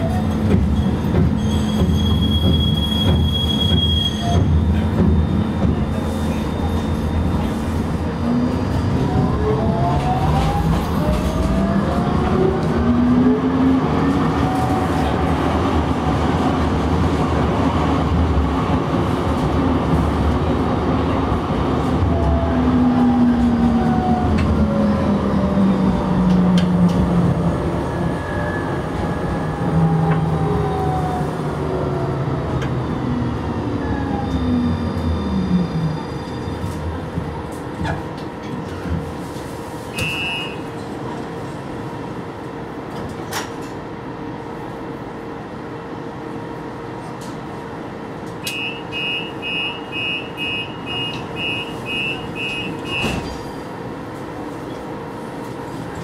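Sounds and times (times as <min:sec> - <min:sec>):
tram rolling rumble: 0:00.0 - 0:56.0.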